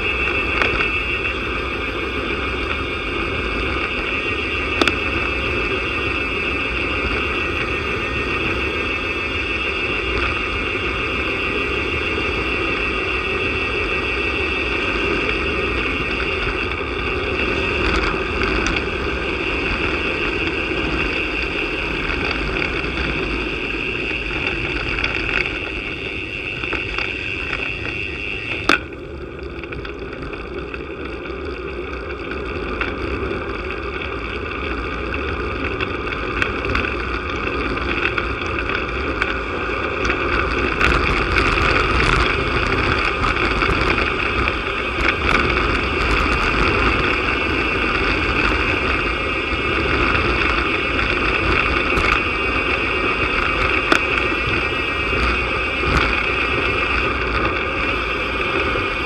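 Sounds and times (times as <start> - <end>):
tyre noise on asphalt: 0.0 - 59.0
wind rushing over microphone: 0.0 - 59.0.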